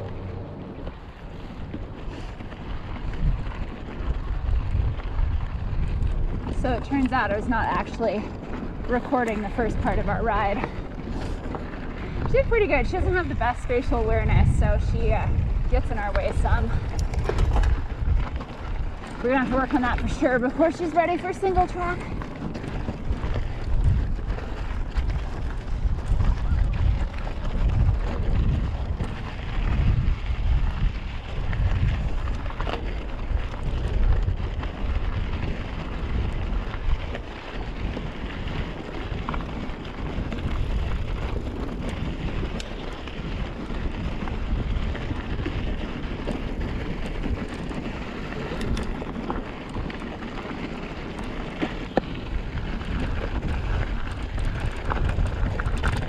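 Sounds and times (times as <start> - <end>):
bike clicking over rocks: 0.0 - 56.0
bike tyres rumbling on gravel: 0.0 - 56.0
wind buffeting microphone: 0.0 - 56.0.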